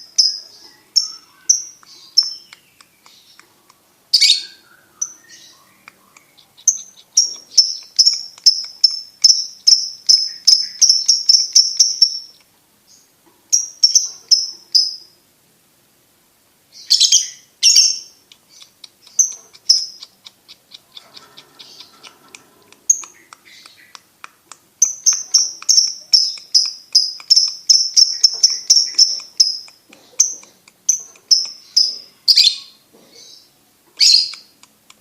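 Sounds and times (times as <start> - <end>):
harsh bird calls: 0.0 - 13.1, 16.7 - 34.8
lovebird chirping: 0.0 - 15.2, 16.7 - 34.6.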